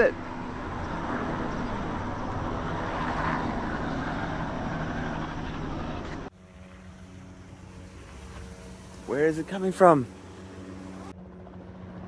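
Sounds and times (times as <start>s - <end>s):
helicopter flying: 0.0s - 12.0s.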